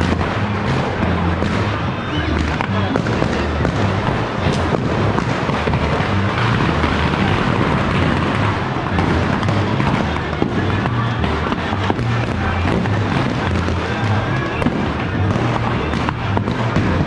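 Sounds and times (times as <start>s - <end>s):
firecrackers crackling and popping: 0.0s - 17.0s
music with bass beat: 0.0s - 17.0s.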